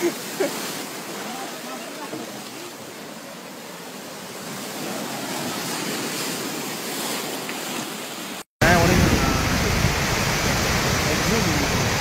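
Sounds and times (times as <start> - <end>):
surf rushing up beach: 0.0 - 12.0.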